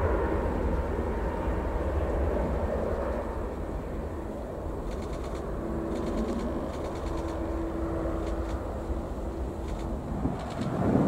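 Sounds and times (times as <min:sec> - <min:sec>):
jet engines at takeoff thrust: 0:00.0 - 0:11.0.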